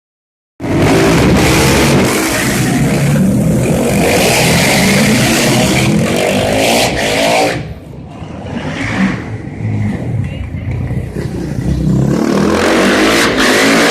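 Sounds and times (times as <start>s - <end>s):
motorcycle engine revving: 0.6s - 7.8s, 8.4s - 13.9s.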